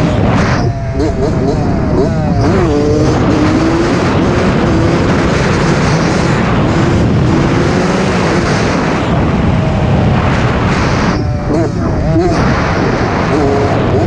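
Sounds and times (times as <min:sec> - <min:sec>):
dirt bike engine revving: 0:00.0 - 0:14.0
wind rumble on microphone: 0:00.0 - 0:14.0.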